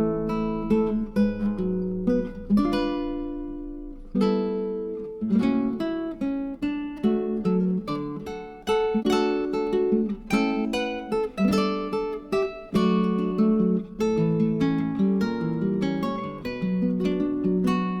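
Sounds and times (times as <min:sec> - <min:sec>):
acoustic guitar strummed and plucked: 0:00.0 - 0:18.0.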